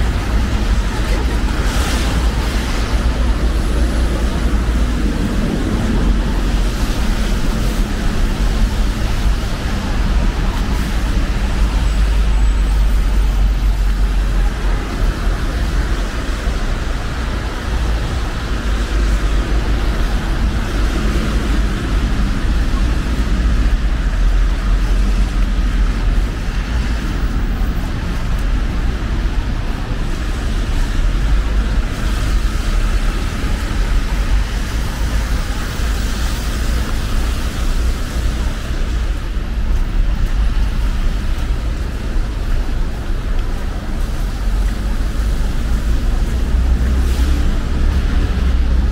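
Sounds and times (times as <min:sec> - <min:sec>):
city street traffic: 0:00.0 - 0:48.9.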